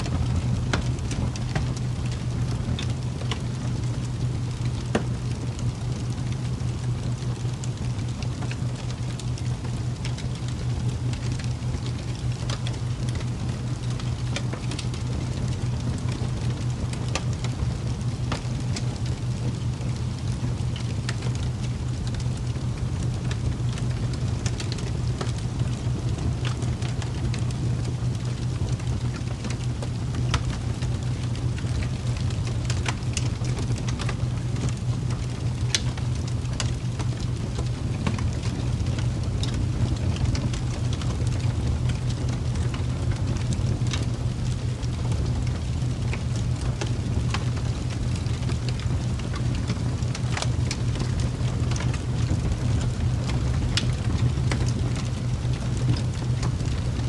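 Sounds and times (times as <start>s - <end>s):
raindrop ticks: 0.0s - 57.0s
steady rain: 0.0s - 57.0s.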